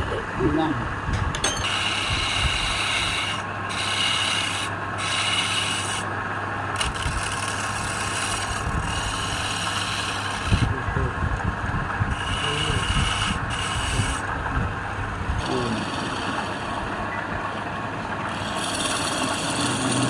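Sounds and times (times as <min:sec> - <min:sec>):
tool scraping spinning wood: 0:01.4 - 0:11.2, 0:12.0 - 0:20.0
wood lathe humming: 0:01.6 - 0:11.0, 0:12.0 - 0:20.0.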